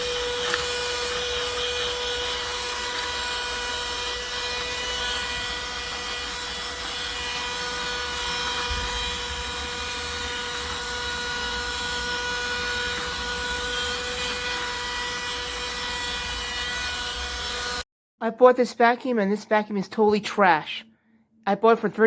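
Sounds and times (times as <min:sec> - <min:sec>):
mini vacuum motor whining: 0:00.0 - 0:17.8.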